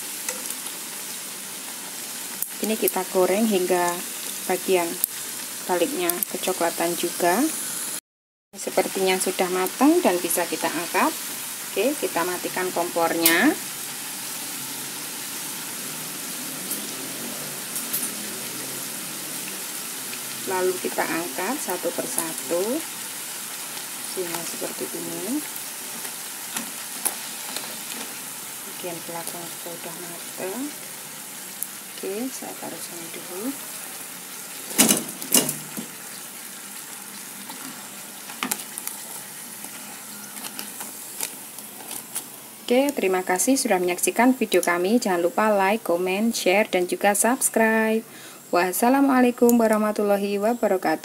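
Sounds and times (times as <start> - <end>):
fritters sizzling in hot oil: 0.0 - 8.0, 8.6 - 51.0
sharp oil crackles: 0.0 - 8.0, 8.7 - 44.7.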